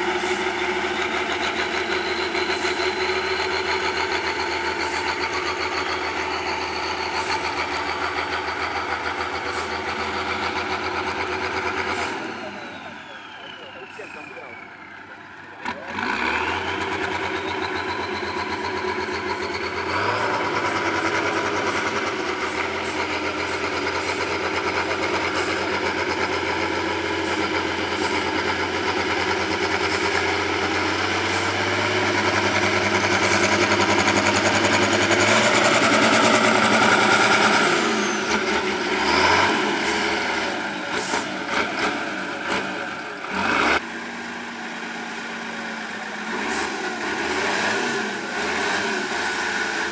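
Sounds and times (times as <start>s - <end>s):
diesel truck engine revving: 0.0s - 49.9s.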